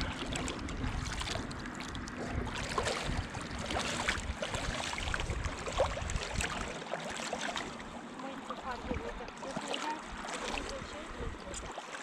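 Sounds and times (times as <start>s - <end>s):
shallow water sloshing: 0.0s - 12.0s.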